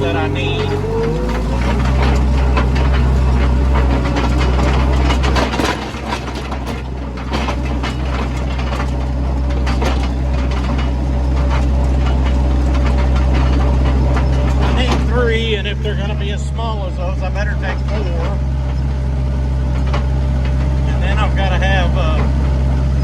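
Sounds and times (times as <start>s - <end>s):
heavy machine engine humming: 0.0s - 23.0s
knocks and rattles: 0.0s - 23.0s.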